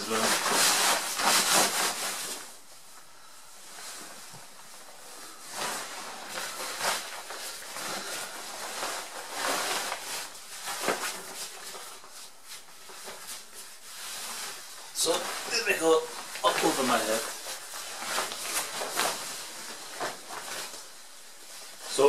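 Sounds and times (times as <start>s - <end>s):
waterproof fabric rustling: 0.0s - 22.0s.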